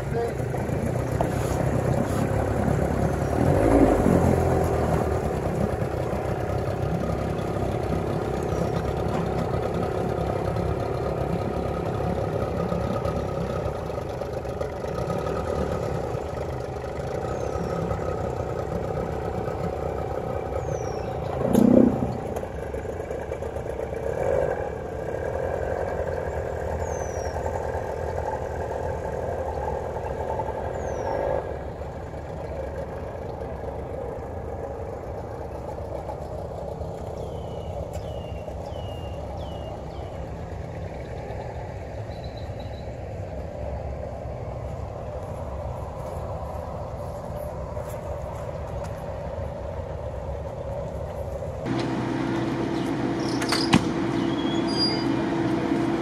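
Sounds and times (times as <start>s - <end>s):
outboard boat motor running: 0.0s - 46.0s, 46.6s - 56.0s.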